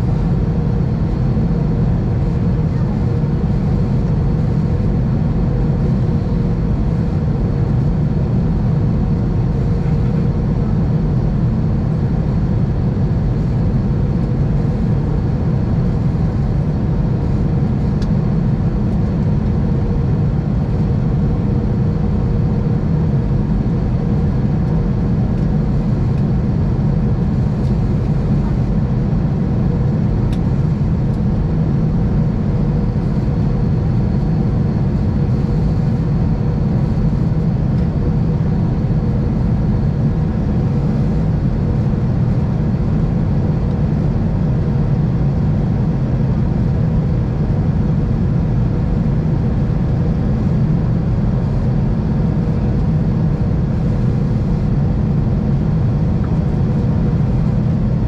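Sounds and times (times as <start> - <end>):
airflow and engine rush: 0.0 - 58.0
faint steady whine: 0.0 - 58.0.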